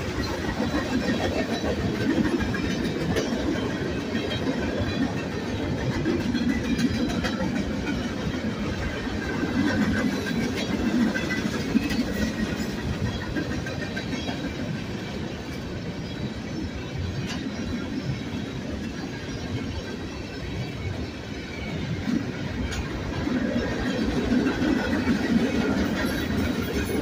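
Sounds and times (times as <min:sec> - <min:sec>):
freight train rumbling past: 0:00.0 - 0:27.0
wheels clicking over rail joints: 0:00.0 - 0:27.0.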